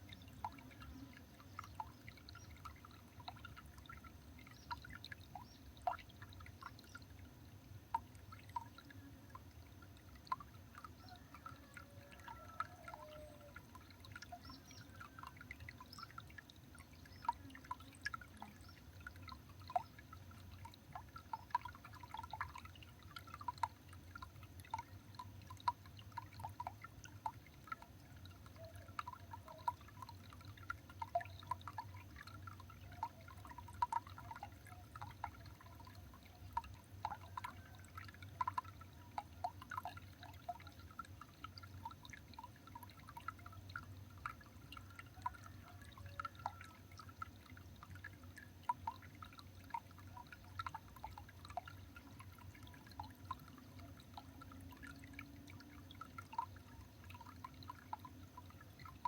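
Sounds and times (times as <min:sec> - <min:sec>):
faint low steady hum: 0:00.0 - 0:59.0
water dripping and trickling: 0:00.0 - 0:59.0.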